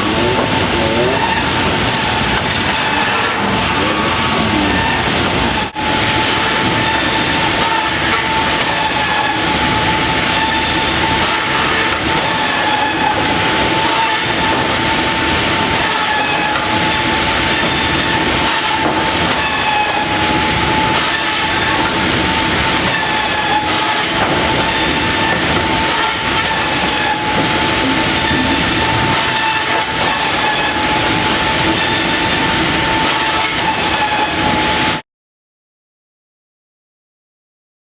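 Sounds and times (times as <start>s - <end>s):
grinder whining: 0.0s - 35.0s.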